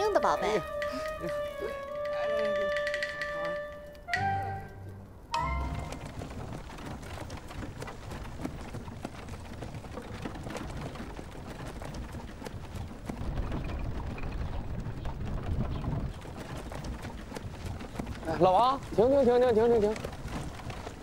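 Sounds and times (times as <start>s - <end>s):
carriage rattling and creaking: 0.0s - 21.0s
horse hooves clopping: 0.0s - 21.0s.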